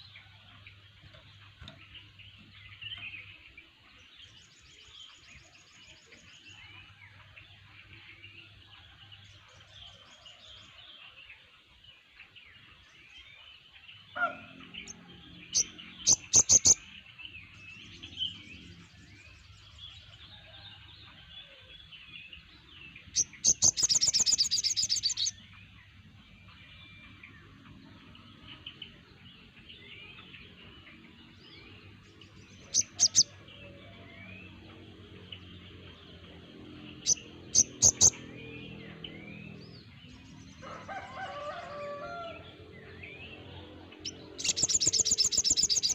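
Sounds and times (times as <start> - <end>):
birds chattering in thin chirps: 0.0 - 45.9.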